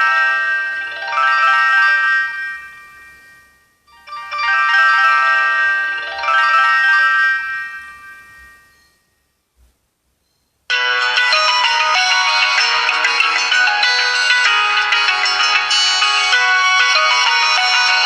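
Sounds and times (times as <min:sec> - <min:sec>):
phone ringtone melody: 0:00.0 - 0:09.1, 0:10.7 - 0:18.0.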